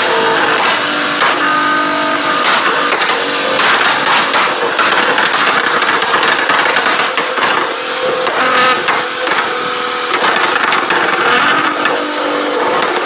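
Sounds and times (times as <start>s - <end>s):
engine note: 0.0s - 13.0s
exhaust popping and crackling: 0.0s - 13.0s.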